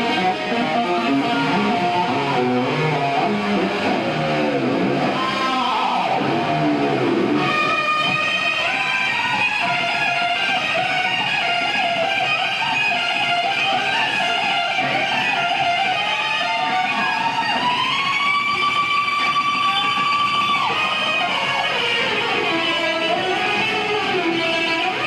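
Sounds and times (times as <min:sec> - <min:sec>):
electric guitar solo: 0:00.0 - 0:25.0
live rock band: 0:00.0 - 0:25.0.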